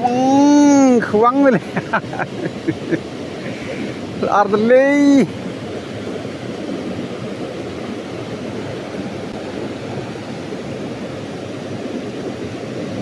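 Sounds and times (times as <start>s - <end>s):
river water rushing over rapids: 0.0s - 13.0s.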